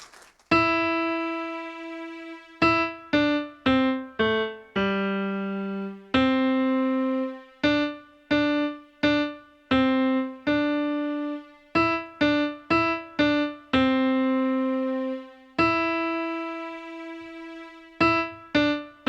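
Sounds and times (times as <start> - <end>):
slow piano melody: 0.5 - 19.0.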